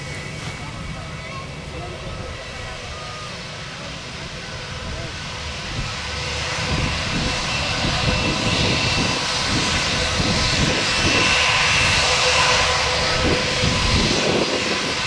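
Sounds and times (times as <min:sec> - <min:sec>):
jet engines roaring and whining: 0:00.0 - 0:15.0.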